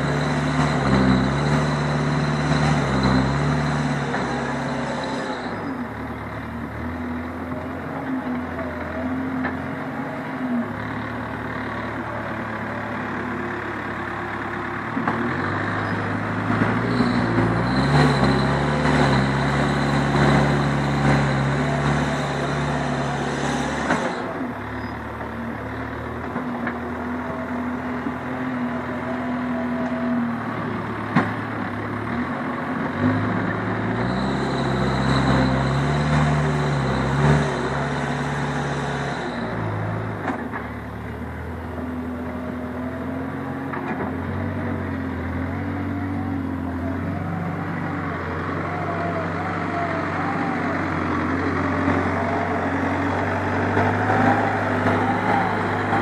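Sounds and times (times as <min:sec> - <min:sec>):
backhoe diesel engine running: 0:00.0 - 0:56.0.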